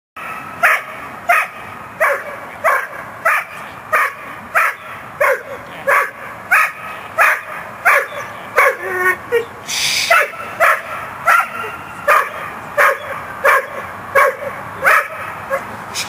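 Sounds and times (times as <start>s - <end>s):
dog barking: 0.6s - 9.5s, 10.1s - 15.7s.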